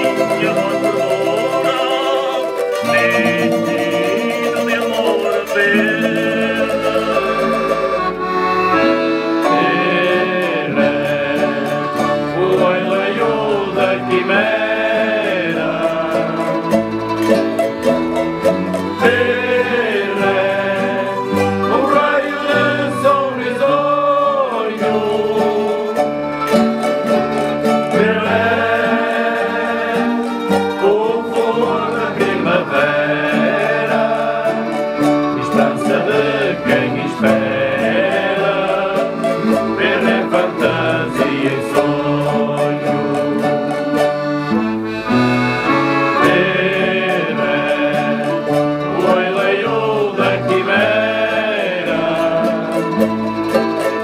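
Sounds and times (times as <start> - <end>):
accordion: 0.0 - 54.0
folk group singing: 0.0 - 54.0
mandolins: 0.0 - 54.0
strummed guitars: 0.0 - 54.0.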